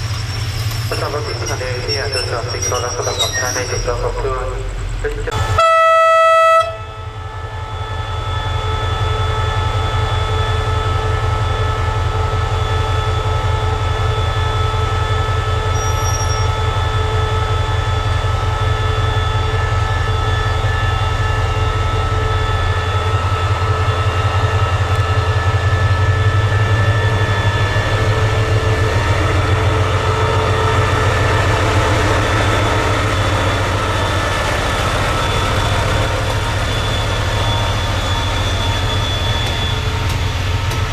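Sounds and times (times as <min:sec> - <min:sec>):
steady whining tones: 0:00.0 - 0:05.6, 0:06.8 - 0:40.9
train rumbling on rails: 0:00.0 - 0:40.9.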